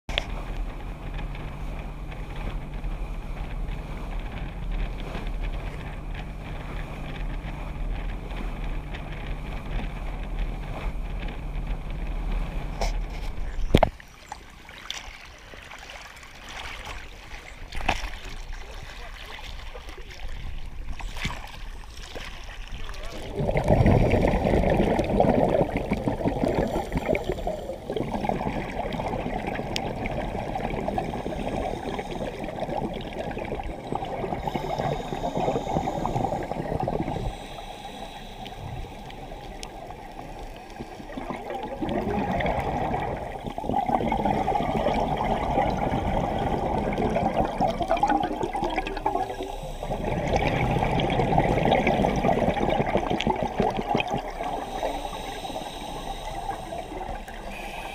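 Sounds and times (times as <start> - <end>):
underwater bubbling from divers: 0.1 - 57.9.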